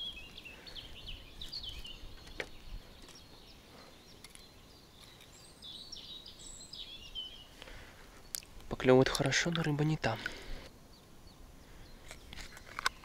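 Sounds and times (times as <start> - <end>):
faint songbirds chirping: 0.0 - 13.0.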